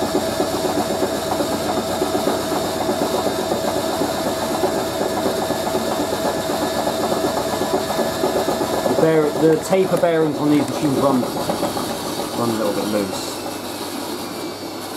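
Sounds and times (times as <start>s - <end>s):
washing machine spinning: 0.0s - 14.9s.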